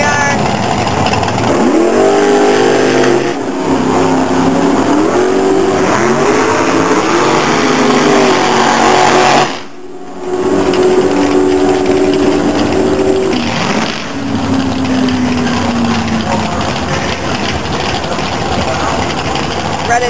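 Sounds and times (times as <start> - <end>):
dragster engine revving: 0.0 - 20.0.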